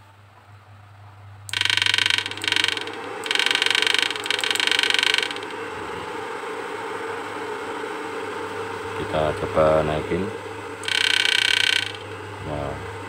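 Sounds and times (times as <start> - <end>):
inverter pulsing buzz: 0.0 - 13.0
soft steady hum: 0.0 - 13.0.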